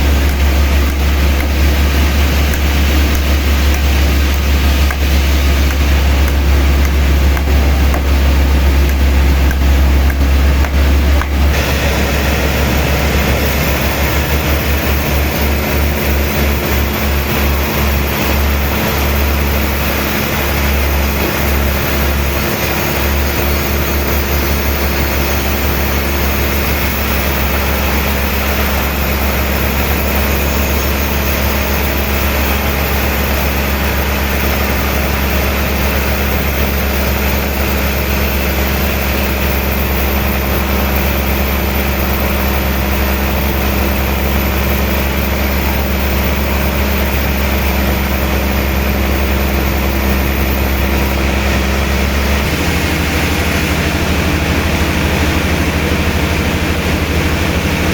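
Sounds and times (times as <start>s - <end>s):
heavy machine low hum: 0.0s - 57.9s.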